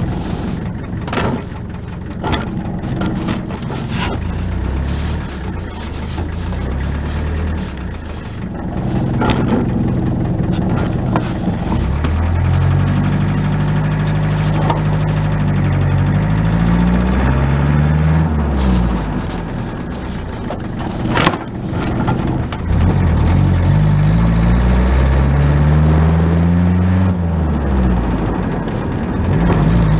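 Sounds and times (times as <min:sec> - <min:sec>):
diesel engine accelerating: 0:00.0 - 0:29.9.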